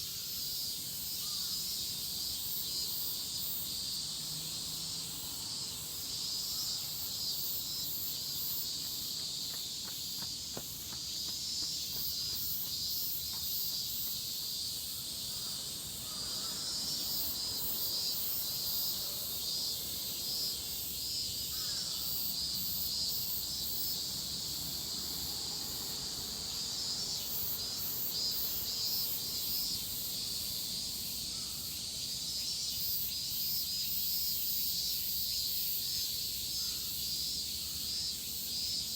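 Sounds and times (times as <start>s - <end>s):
cicadas shrilling: 0.0s - 38.9s.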